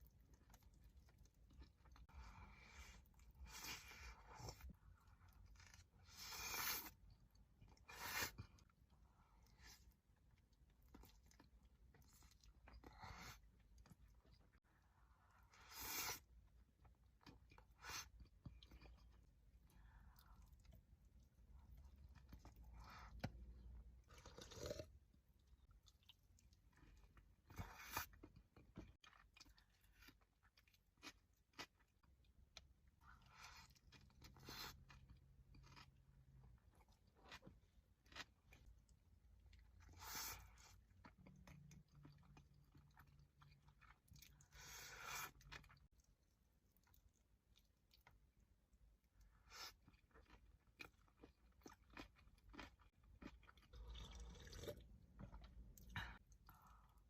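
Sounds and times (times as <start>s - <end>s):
chewing food close up: 0.0s - 57.0s.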